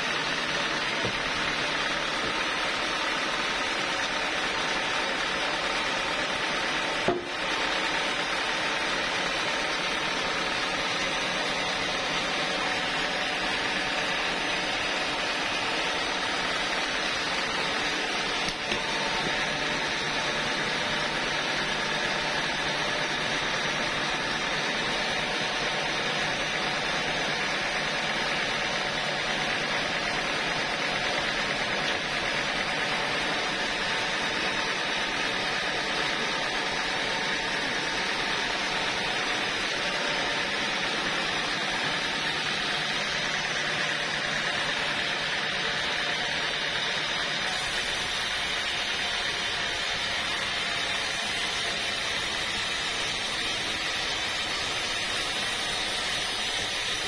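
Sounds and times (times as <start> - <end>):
sawmill drive running: 0.0 - 57.0.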